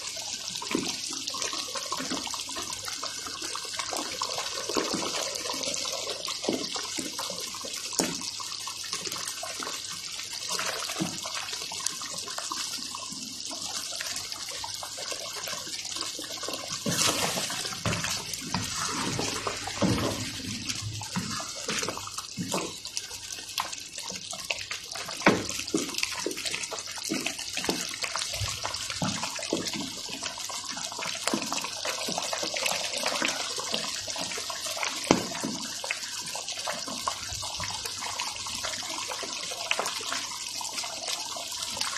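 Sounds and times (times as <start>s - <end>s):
sauce simmering with bubbling pops: 0.0s - 41.9s.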